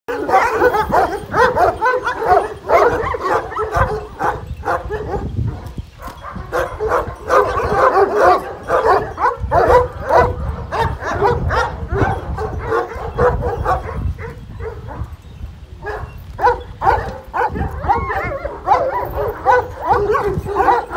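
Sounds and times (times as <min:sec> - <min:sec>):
dogs barking: 0:00.1 - 0:15.2, 0:15.8 - 0:20.9.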